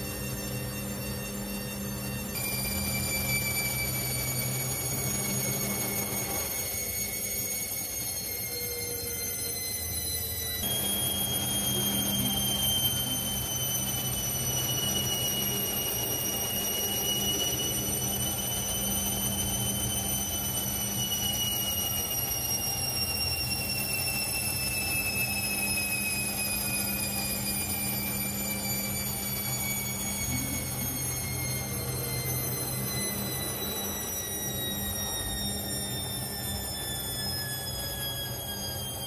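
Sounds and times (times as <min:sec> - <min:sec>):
high spin whine: 0:00.0 - 0:39.0
washing machine motor hum: 0:00.0 - 0:39.0.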